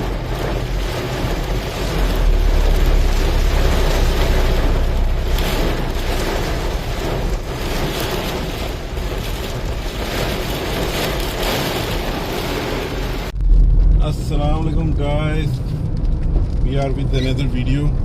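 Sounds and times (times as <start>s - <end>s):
rain: 0.0s - 18.0s
vehicle on wet road: 0.0s - 18.0s.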